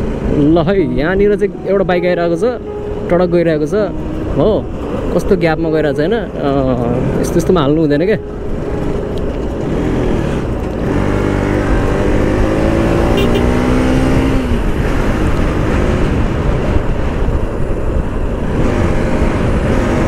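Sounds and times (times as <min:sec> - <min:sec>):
wind and road noise: 0:00.0 - 0:20.0
motorcycle engine: 0:02.8 - 0:20.0.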